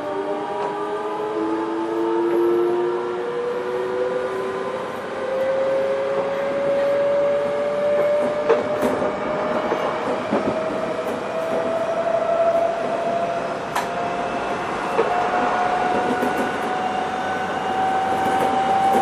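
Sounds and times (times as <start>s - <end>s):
wheel and rail noise: 0.0s - 19.0s.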